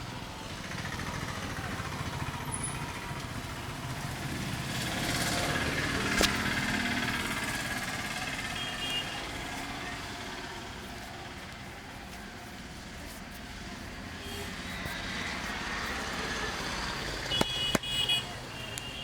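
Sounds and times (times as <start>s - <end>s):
vehicle passing: 0.4s - 19.0s.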